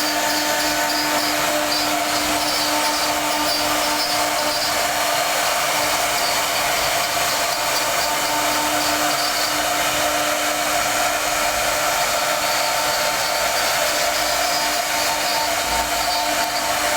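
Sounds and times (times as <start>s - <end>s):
router whining: 0.0s - 16.9s.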